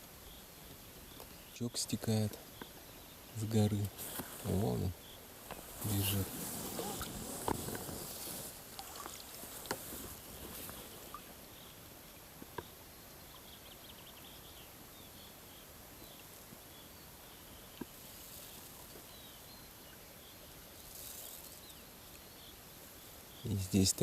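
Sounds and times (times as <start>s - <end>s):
distant birds chirping: 0.0s - 24.0s
steady quiet hiss: 0.0s - 24.0s.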